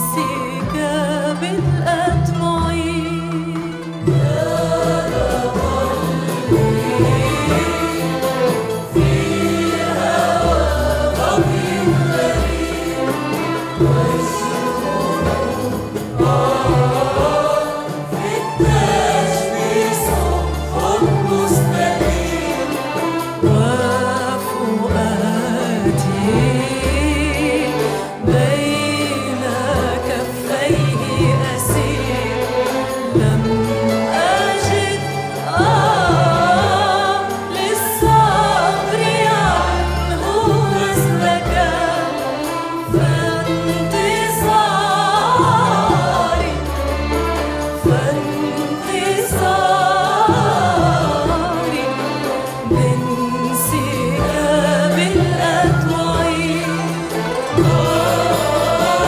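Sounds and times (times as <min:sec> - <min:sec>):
string orchestra: 0:00.0 - 0:59.0
mixed choir singing: 0:03.9 - 0:59.0.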